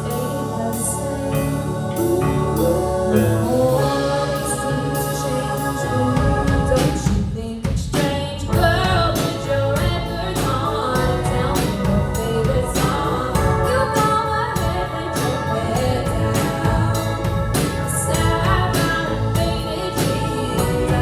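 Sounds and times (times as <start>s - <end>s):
band playing pop song: 0.0s - 21.0s
steady drum beat: 3.2s - 21.0s.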